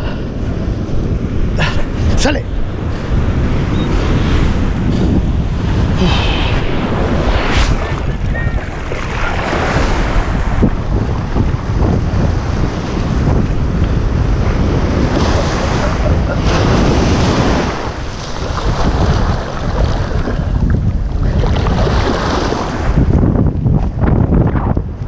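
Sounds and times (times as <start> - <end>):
surf washing at waterline: 0.0 - 24.3
wind buffeting microphone: 0.0 - 25.0.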